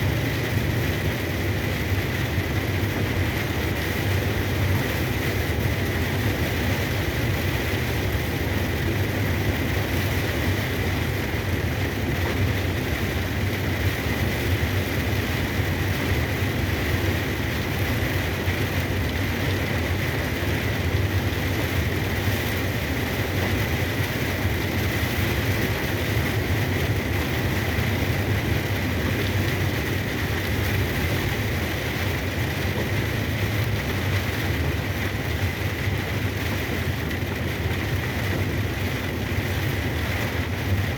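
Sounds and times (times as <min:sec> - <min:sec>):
rain and tyre spray hiss: 0:00.0 - 0:40.9
truck engine and road drone: 0:00.0 - 0:40.9.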